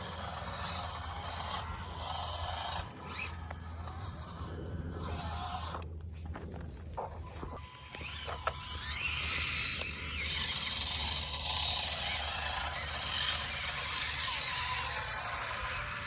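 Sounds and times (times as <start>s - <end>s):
small electric motors whirring: 0.0s - 16.0s.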